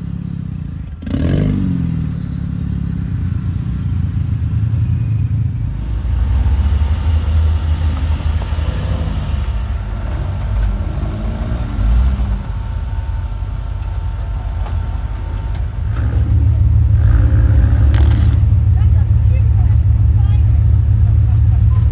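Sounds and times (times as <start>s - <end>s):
truck engine running at low revs: 0.0s - 21.9s.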